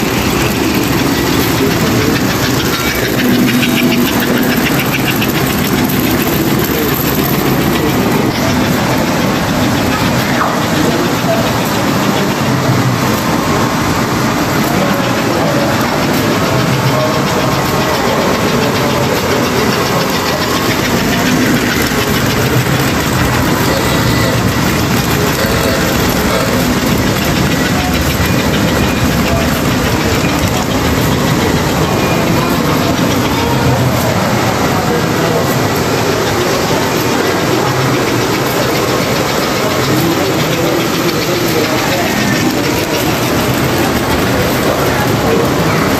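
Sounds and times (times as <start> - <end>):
model trains rumbling on track: 0.0 - 45.9.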